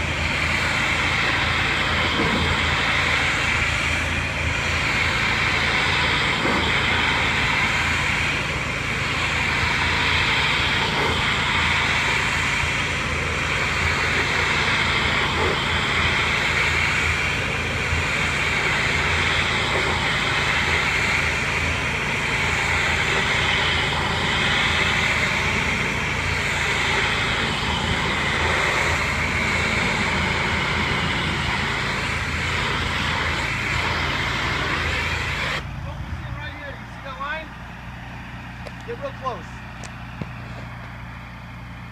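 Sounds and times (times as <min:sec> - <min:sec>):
water spray hissing on siding: 0:00.0 - 0:35.7
pressure washer motor droning: 0:00.0 - 0:41.9.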